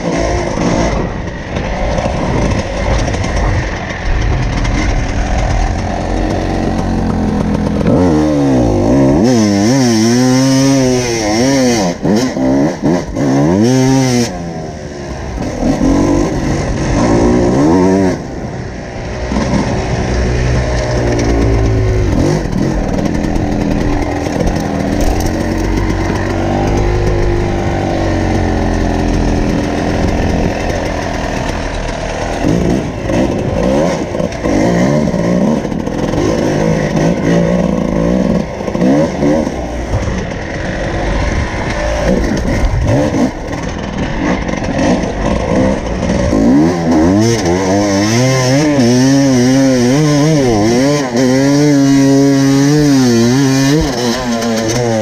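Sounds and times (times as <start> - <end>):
two-stroke motorcycle revving: 0.0 - 55.0.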